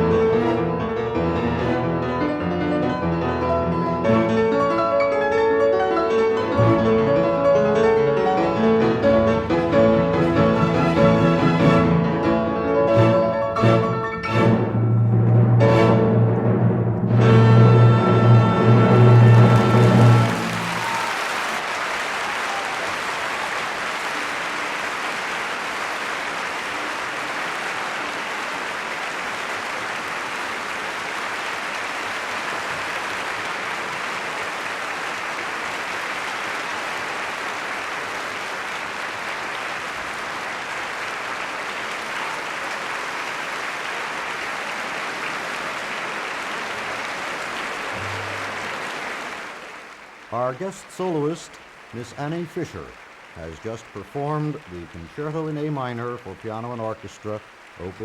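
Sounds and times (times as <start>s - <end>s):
audience applauding: 0.0s - 14.7s, 17.4s - 58.0s.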